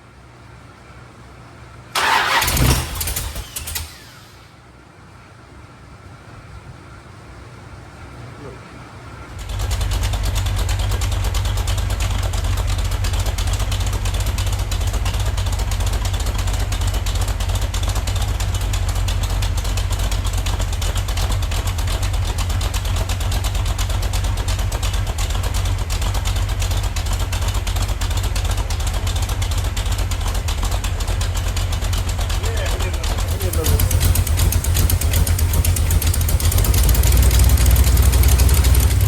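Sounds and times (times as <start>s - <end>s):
engine running steadily: 0.8s - 39.0s.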